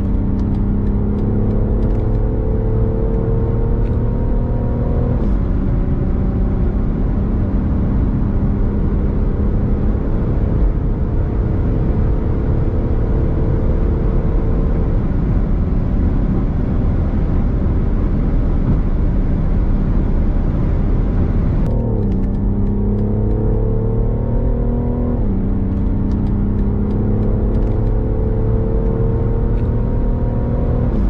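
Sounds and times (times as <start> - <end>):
car engine at full throttle: 0.0 - 31.0
wind and road noise: 0.0 - 31.0.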